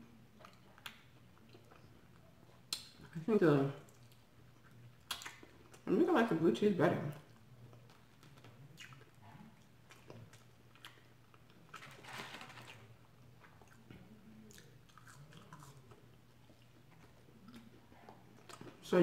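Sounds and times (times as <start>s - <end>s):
person chewing food: 0.1s - 3.2s, 3.9s - 5.9s, 7.3s - 18.8s.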